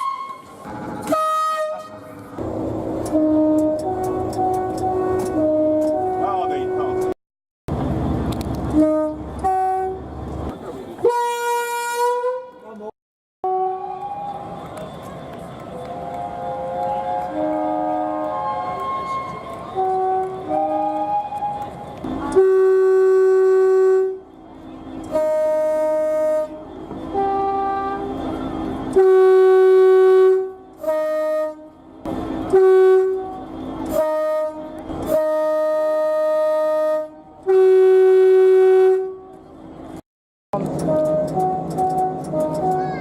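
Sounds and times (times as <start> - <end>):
train two-tone horn: 0.0 - 2.1, 3.0 - 7.2, 8.6 - 10.0, 11.0 - 12.6, 13.4 - 14.5, 16.8 - 39.5, 40.6 - 43.0
train rumble: 0.0 - 43.0.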